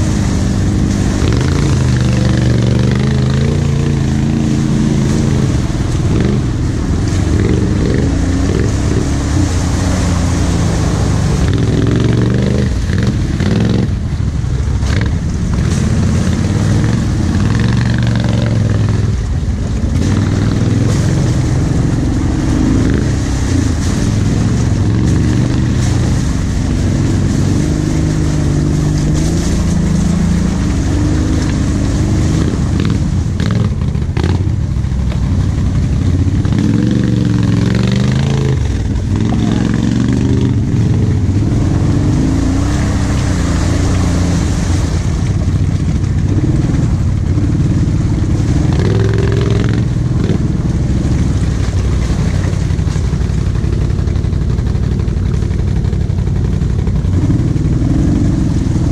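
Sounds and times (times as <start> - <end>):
quad engine revving: 0.0 - 14.2, 14.8 - 58.9.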